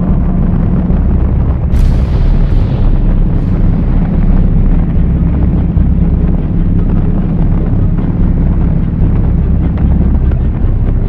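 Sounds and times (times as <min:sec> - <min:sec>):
motorcycle engine droning: 0:00.0 - 0:11.0
wind buffeting on microphone: 0:00.0 - 0:11.0.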